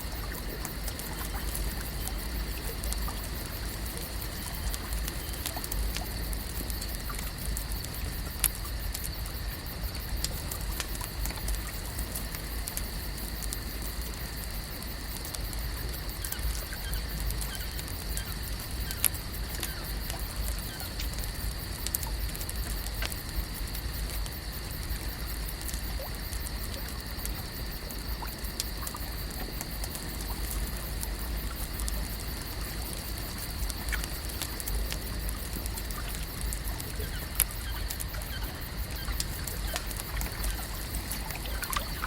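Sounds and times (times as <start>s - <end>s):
small clicks and ticks: 0.0s - 42.0s.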